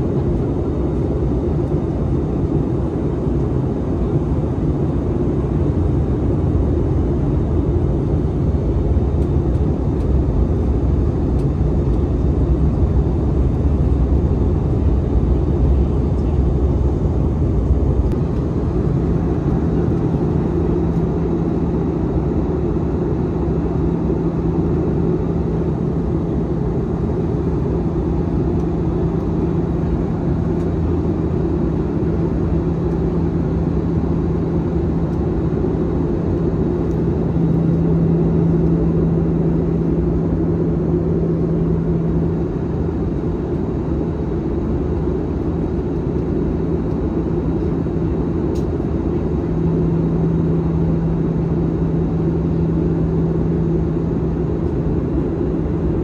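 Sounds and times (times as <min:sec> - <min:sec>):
airplane cabin engine rumble: 0:00.0 - 0:56.0
steady low hum: 0:00.0 - 0:56.0.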